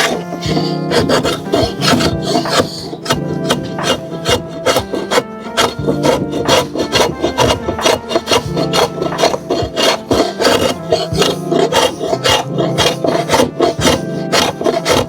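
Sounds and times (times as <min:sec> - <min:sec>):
background music: 0:00.0 - 0:15.0
hand tool rasping wood: 0:00.0 - 0:15.0.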